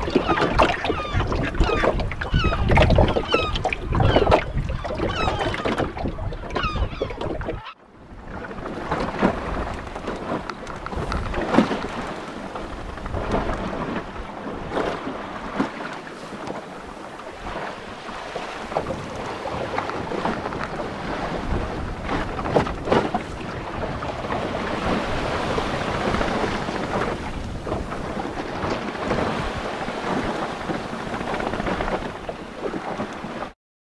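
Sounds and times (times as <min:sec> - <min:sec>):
strong wind buffeting microphone: 0:00.0 - 0:33.4.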